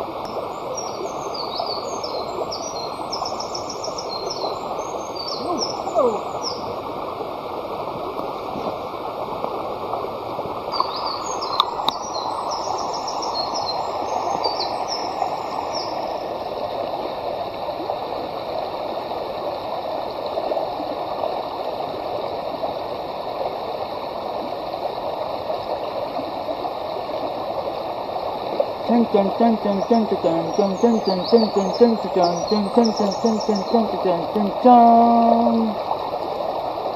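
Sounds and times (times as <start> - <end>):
running water: 0.0 - 22.5, 24.5 - 36.9.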